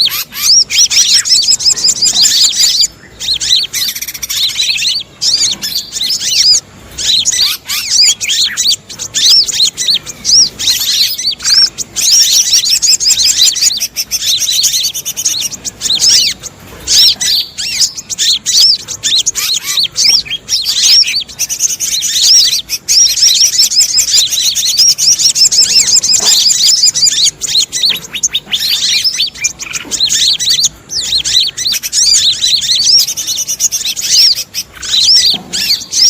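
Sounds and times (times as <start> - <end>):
many small birds chirping: 0.0 - 36.0.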